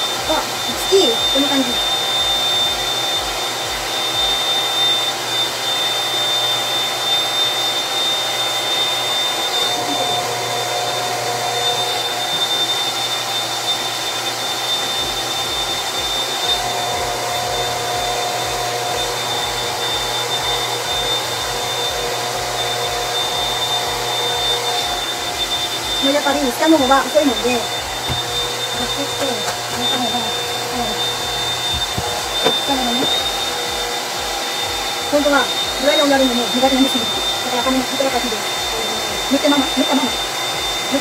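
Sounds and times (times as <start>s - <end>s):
hair dryer blowing: 0.0s - 41.0s.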